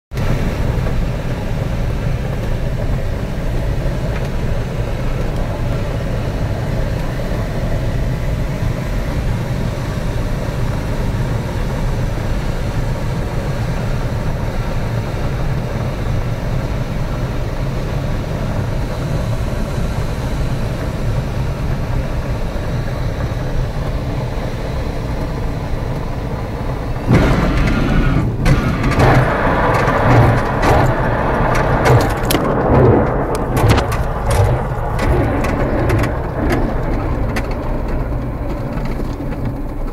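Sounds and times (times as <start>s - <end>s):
wind noise around cockpit: 0.1s - 39.9s.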